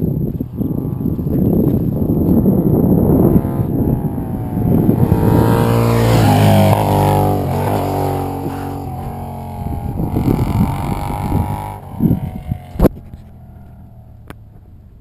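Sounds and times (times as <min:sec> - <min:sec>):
wind gusting on microphone: 0:00.0 - 0:13.2
motorcycle riding away: 0:00.0 - 0:15.0.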